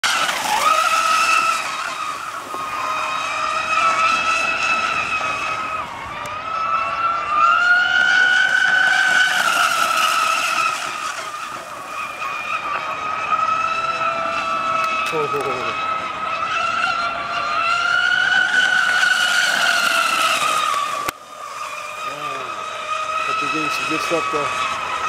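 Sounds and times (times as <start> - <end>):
boat motor whining: 0.0 - 25.0.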